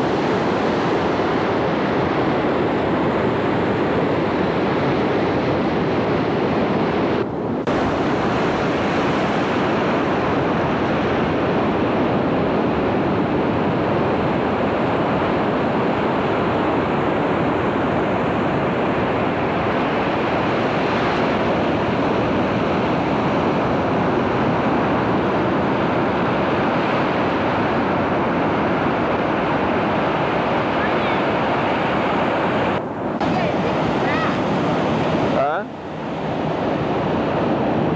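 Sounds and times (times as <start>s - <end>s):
ocean surf rushing: 0.0s - 37.9s
wind on microphone: 0.0s - 37.9s.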